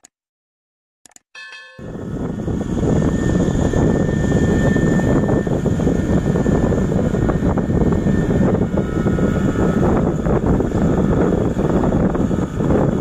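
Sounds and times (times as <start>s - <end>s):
thin high whine: 1.4s - 12.6s
combine harvester engine drone: 1.8s - 13.0s.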